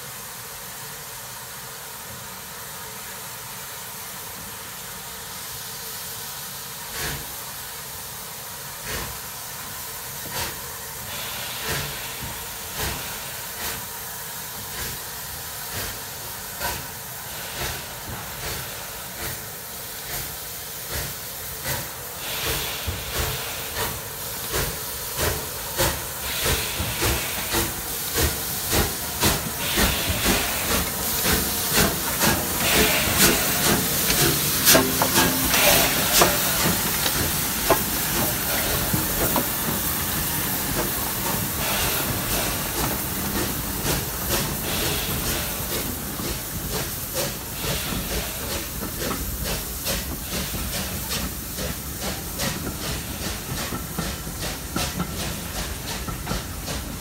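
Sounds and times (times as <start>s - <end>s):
steam hissing: 0.0s - 57.0s
steam locomotive exhaust chuffs: 0.0s - 57.0s.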